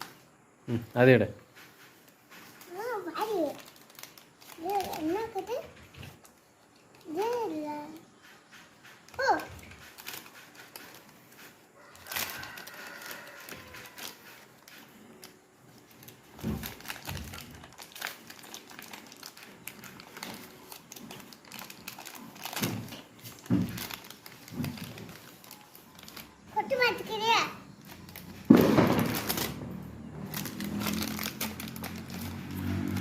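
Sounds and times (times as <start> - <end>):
packaging crinkling and rustling: 2.0 - 7.6, 9.5 - 33.0.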